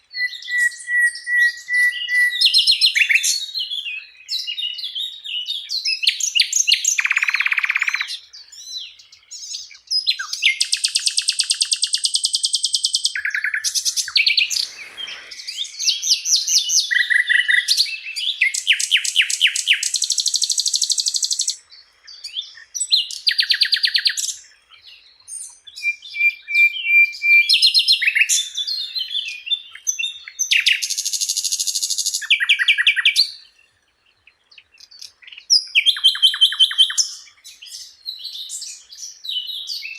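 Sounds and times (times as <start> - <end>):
flycatcher singing trills: 0.0 - 39.9.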